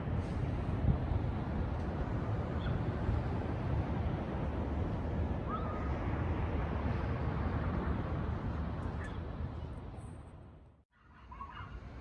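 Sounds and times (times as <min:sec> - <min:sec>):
car road and wind noise: 0:00.0 - 0:10.8.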